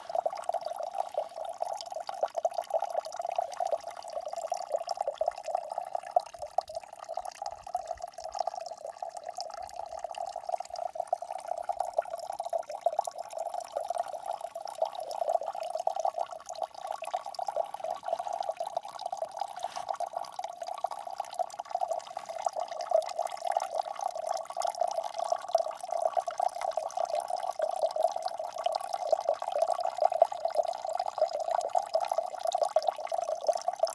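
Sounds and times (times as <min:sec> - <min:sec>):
water trickling and dripping: 0:00.0 - 0:33.9.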